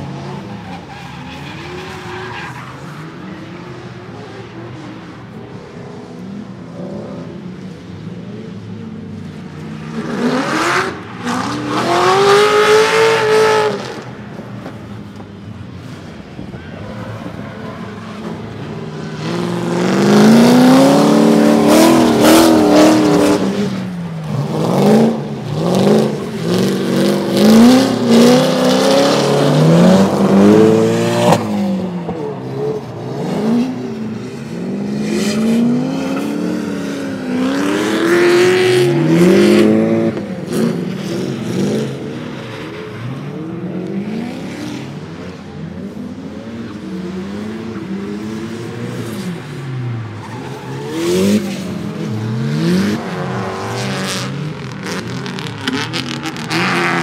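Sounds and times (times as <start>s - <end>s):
drift car engines revving: 0.0s - 57.0s.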